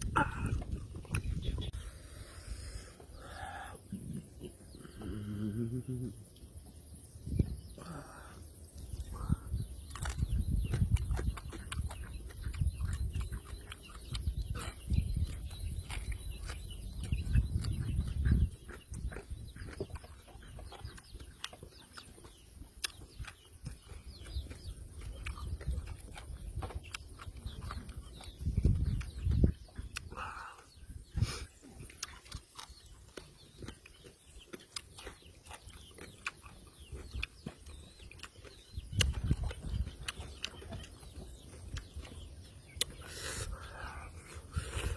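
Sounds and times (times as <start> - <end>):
person chewing and smacking: 0.0 - 1.8, 7.4 - 44.9.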